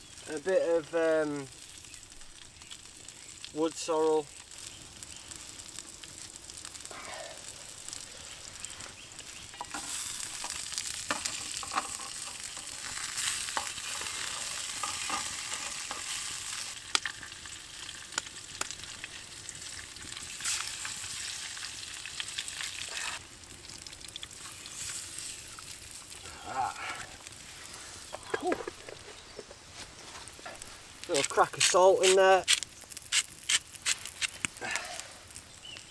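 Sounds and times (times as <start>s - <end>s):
food sizzling in a frying pan: 0.0s - 35.9s.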